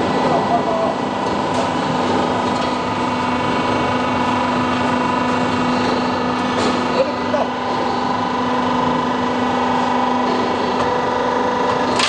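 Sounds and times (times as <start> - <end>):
high machine whine: 0.0 - 12.0
machine droning: 0.0 - 12.0.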